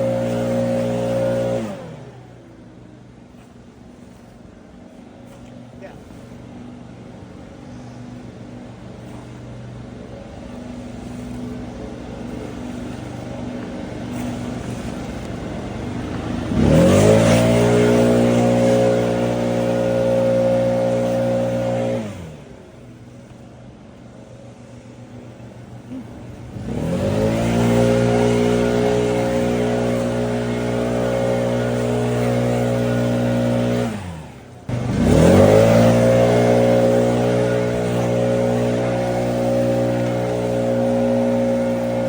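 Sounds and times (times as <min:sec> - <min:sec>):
small petrol engine revving: 0:00.0 - 0:03.2, 0:07.9 - 0:23.0, 0:25.2 - 0:42.0.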